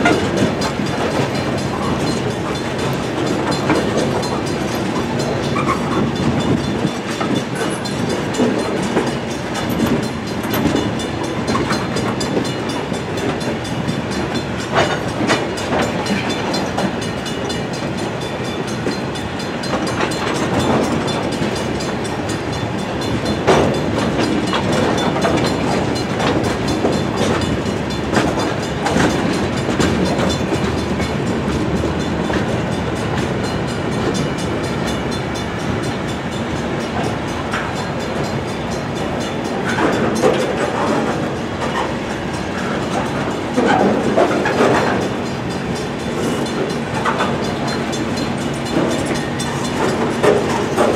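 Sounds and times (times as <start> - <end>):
freight cars rolling on rails: 0.0 - 50.9
wheels clanking over rail joints: 0.0 - 50.9.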